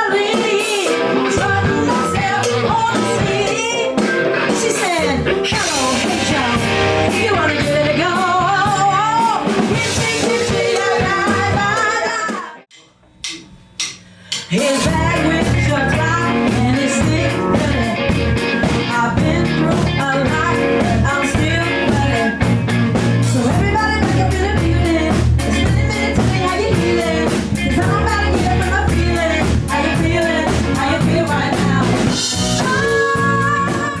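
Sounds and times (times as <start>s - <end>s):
person singing: 0.0s - 12.7s, 14.4s - 22.6s, 23.2s - 34.0s
rock and roll band playing: 0.0s - 12.7s, 14.1s - 34.0s.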